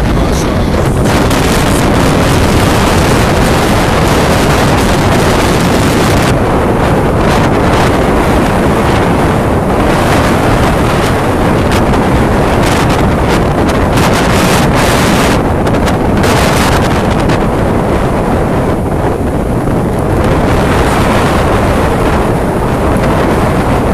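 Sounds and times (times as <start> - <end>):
storm waves: 0.0 - 23.9
strong wind on microphone: 0.0 - 23.9.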